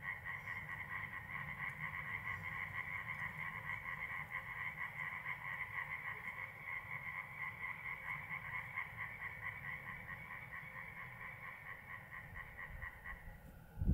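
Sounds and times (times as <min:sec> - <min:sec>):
corncrake rasping call: 0:00.0 - 0:13.4.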